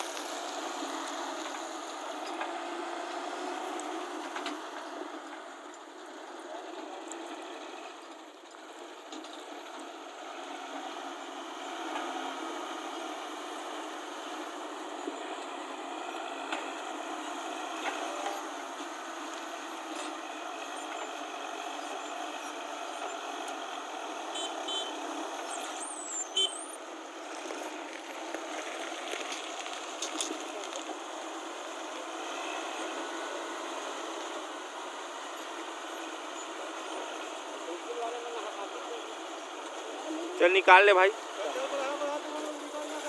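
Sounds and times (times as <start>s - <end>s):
heavy vehicle engine running: 0.0s - 43.0s.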